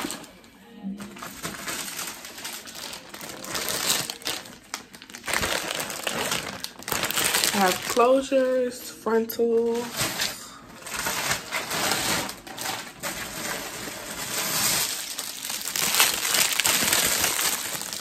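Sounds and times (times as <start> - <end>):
plastic packaging crinkling: 0.0 - 8.6, 9.6 - 18.0.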